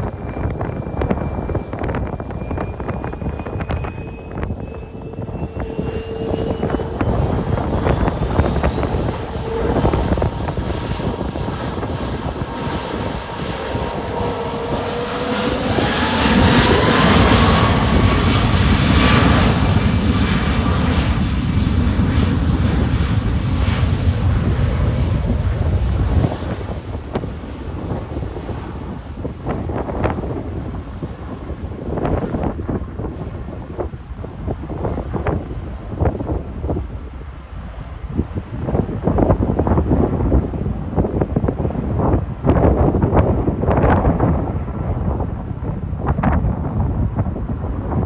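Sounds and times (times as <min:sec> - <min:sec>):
jet engines whining: 0:00.0 - 0:48.0
wind buffeting microphone: 0:00.0 - 0:48.0.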